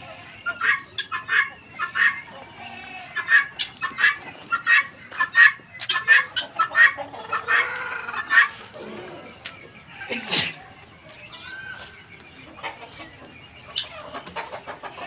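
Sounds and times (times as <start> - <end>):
guinea fowl calling: 0.0 - 15.0.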